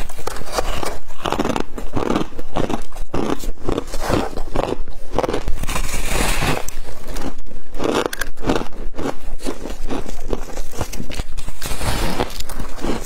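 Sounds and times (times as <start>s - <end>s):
crunching and chewing frost: 0.0s - 13.0s.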